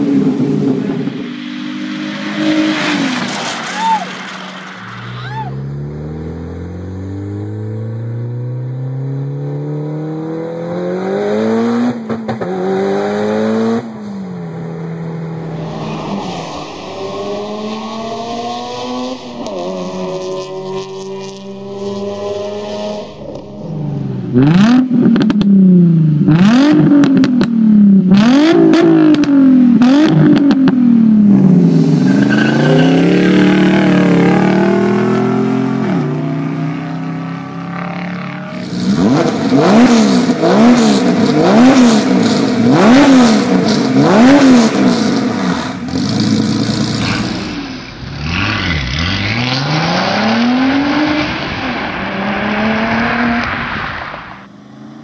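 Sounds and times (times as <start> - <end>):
cars accelerating hard: 0.0 - 55.0.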